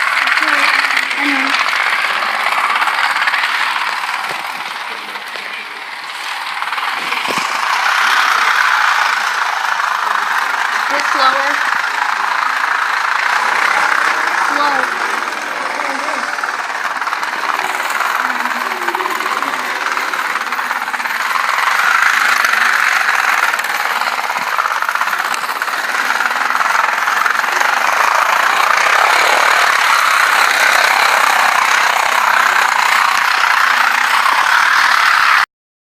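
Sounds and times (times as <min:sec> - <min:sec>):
toy train rattling on track: 0:00.0 - 0:35.5.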